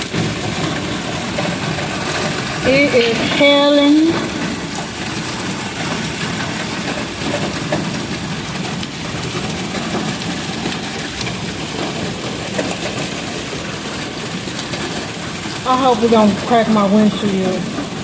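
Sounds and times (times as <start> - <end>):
hailstones clattering on car roof: 0.0 - 18.0.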